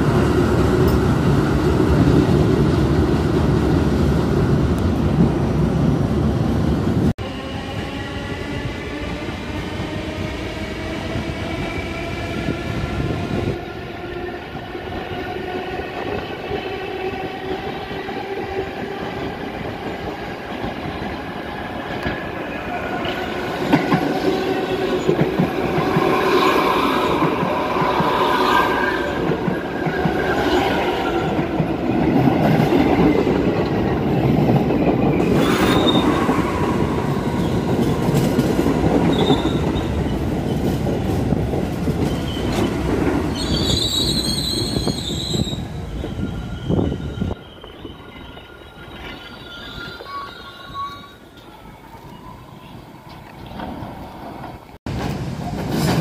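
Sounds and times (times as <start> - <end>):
subway train rumbling past: 0.0 - 56.0
train wheel noise: 0.0 - 56.0.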